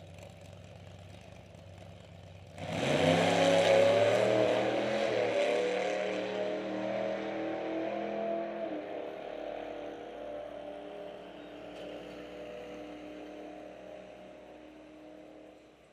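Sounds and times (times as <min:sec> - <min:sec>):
drag car engine: 0:00.0 - 0:15.9.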